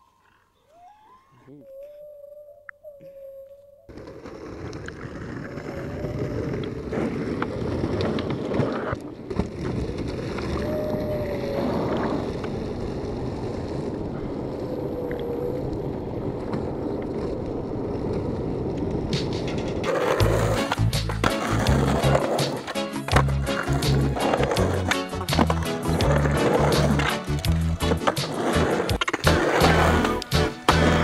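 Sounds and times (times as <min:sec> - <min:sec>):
skateboard clacks: 0:03.9 - 0:14.4, 0:15.0 - 0:31.0
skateboard wheels rolling on asphalt: 0:03.9 - 0:31.0.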